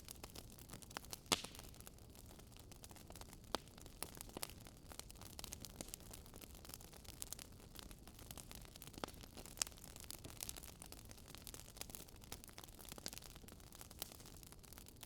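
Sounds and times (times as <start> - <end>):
faint wood fire crackling: 0.0 - 15.0.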